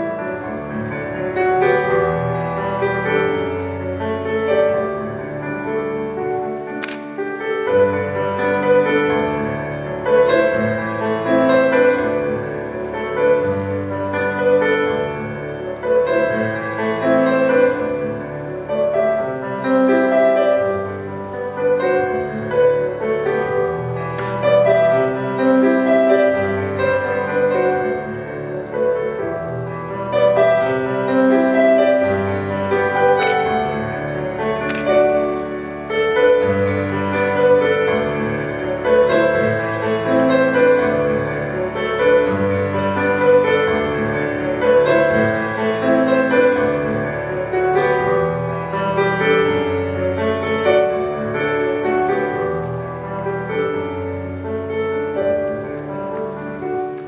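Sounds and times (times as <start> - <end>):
piano chords: 0.0 - 57.0.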